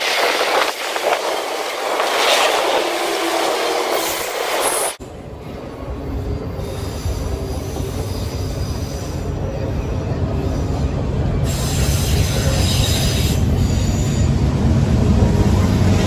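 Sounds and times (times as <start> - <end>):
freight train rumbling past: 0.0 - 16.0
train wheels rushing on rail: 0.0 - 16.0.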